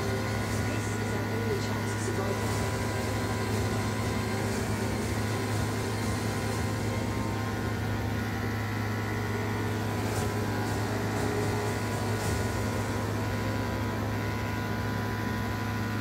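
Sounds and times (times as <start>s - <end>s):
electric clippers buzzing: 0.0s - 16.0s.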